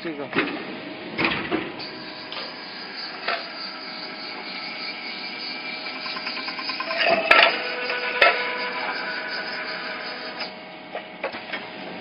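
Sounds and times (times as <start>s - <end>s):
tapping machine motor whine: 1.8s - 11.7s.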